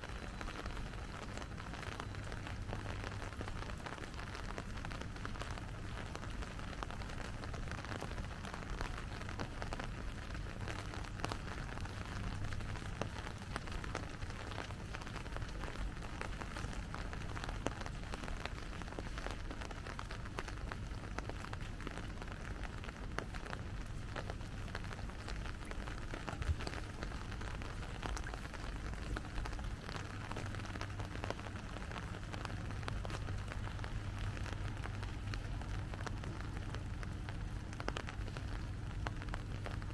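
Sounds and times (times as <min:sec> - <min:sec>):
rain pattering: 0:00.0 - 0:39.9
low steady rumble: 0:00.2 - 0:39.9.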